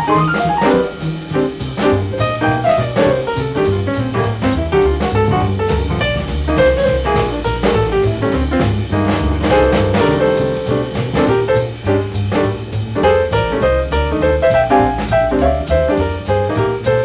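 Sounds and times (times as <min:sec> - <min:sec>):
double bass: 0:00.0 - 0:17.0
drum kit: 0:00.0 - 0:17.0
piano: 0:00.0 - 0:17.0.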